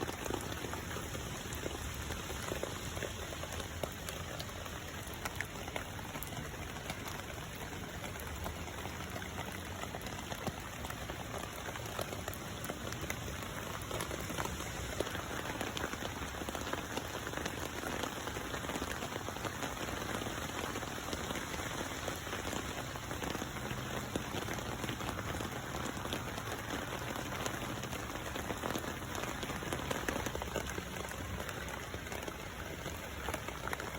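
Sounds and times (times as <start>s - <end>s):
rain falling on pond water: 0.0s - 33.9s.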